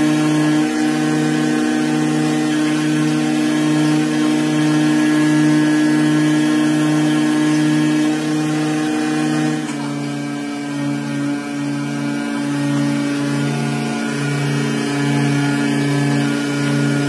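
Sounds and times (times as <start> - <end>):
machine motor humming: 0.0 - 17.0.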